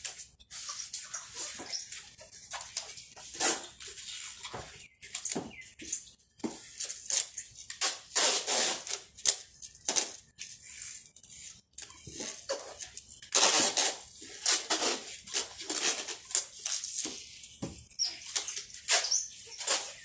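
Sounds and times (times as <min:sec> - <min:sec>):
packing tape pulled off roll: 0:00.0 - 0:05.4, 0:06.7 - 0:17.2, 0:17.9 - 0:20.0.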